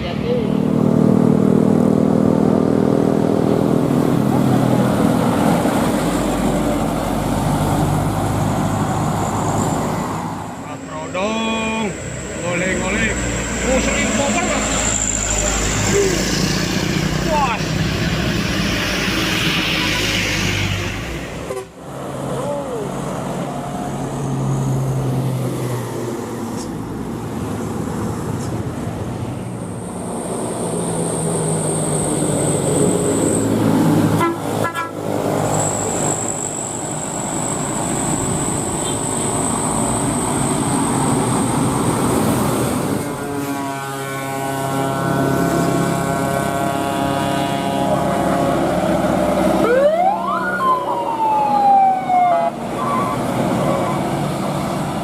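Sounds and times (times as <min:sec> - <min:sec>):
truck diesel engines labouring: 0:00.0 - 0:55.0.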